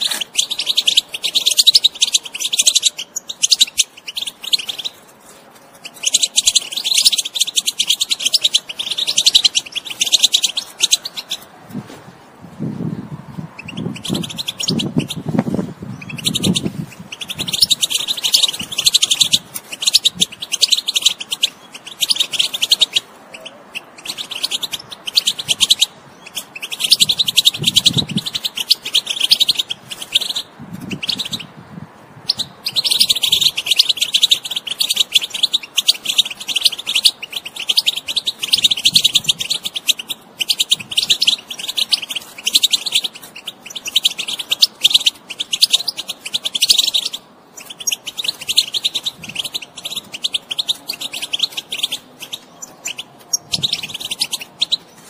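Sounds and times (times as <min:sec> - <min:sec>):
goldfinch twittering song: 0:00.0 - 0:05.1, 0:05.7 - 0:11.4, 0:13.5 - 0:31.5, 0:32.3 - 0:55.0.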